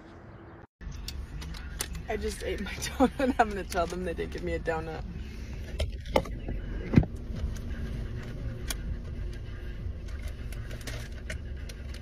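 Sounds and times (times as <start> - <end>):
car engine idling: 0.4 - 12.0.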